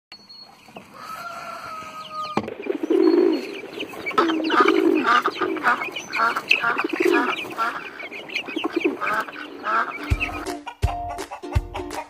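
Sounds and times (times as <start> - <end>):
chicken clucking: 0.4 - 12.0.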